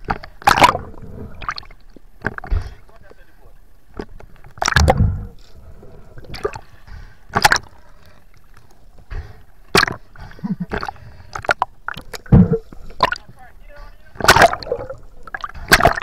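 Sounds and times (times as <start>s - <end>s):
water splashing: 0.0s - 2.9s, 3.9s - 16.0s
low watery rumble: 0.0s - 16.0s.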